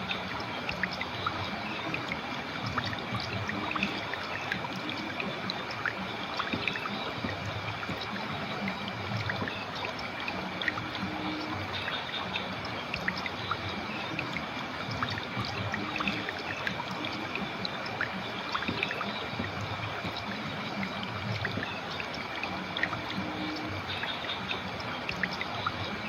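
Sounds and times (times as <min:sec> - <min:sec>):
river water babbling: 0:00.0 - 0:26.0.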